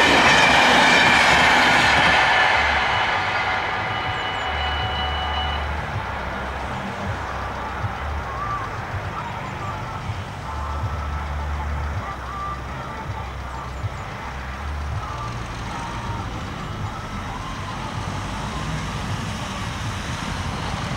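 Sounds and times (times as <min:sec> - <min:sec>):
faint high warning tones: 0:00.0 - 0:20.9
steady low rumble: 0:00.0 - 0:20.9.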